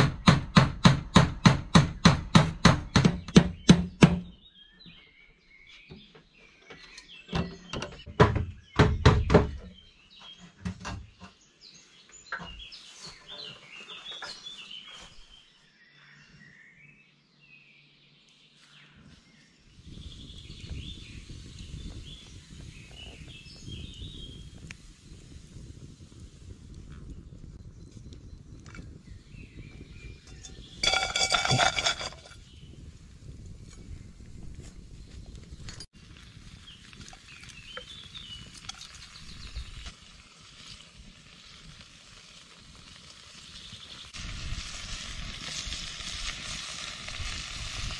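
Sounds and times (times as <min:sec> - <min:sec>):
small birds chirping: 0:01.8 - 0:47.9.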